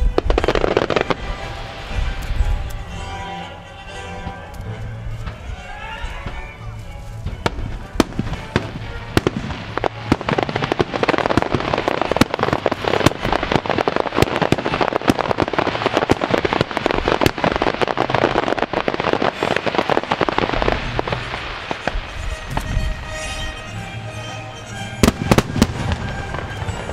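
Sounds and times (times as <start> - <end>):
fireworks bursts and crackle: 0.0 - 26.9
music playing: 0.0 - 26.9.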